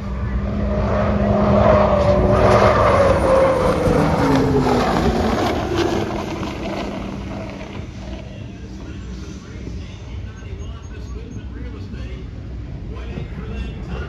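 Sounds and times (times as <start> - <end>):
gas turbine whine of passing boat: 0.0 - 14.0.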